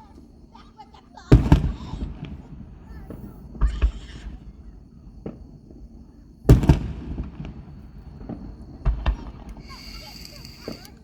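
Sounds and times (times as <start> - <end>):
firework booms: 1.3 - 11.0
firework pops and cracks: 1.3 - 11.0.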